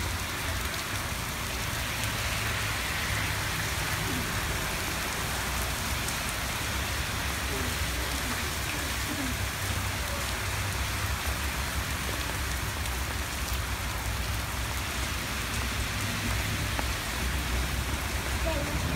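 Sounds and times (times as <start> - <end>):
cars splashing through water: 0.0 - 18.9
heavy rain on pavement: 0.0 - 18.9.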